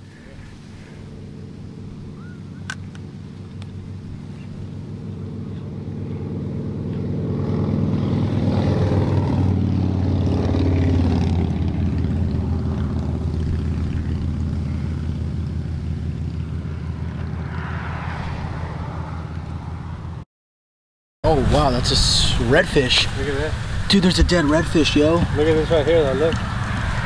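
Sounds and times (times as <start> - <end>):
passing vehicle engine drone: 0.0 - 20.2, 21.2 - 27.0.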